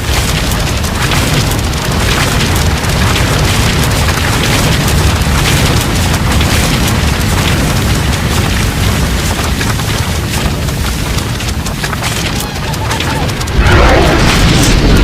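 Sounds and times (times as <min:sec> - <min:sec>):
deep rumble: 0:00.0 - 0:15.0
dense crackling: 0:00.0 - 0:15.0.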